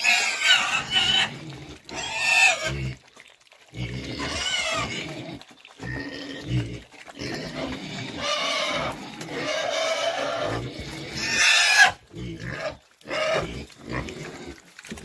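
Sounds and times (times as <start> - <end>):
pigs squealing and grunting: 0.0 - 15.0.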